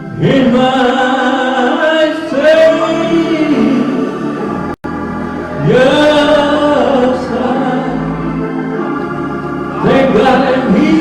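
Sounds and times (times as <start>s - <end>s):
gospel chorus singing: 0.0s - 11.0s
sustained instrumental backing: 0.0s - 11.0s.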